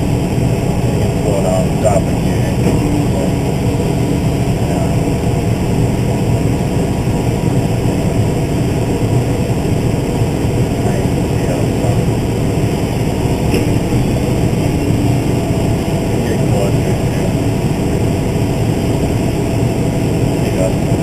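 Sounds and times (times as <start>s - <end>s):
tractor diesel engine droning: 0.0s - 21.0s.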